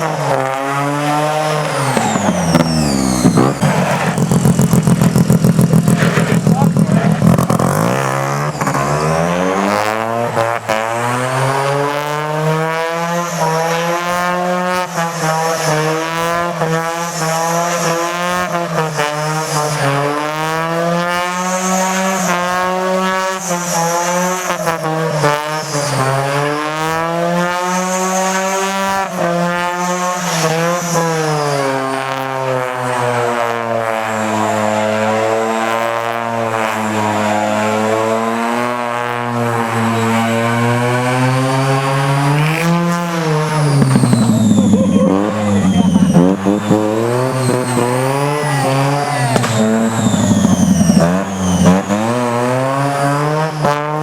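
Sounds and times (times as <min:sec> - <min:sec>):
rotary engine revving: 0:00.0 - 0:54.0.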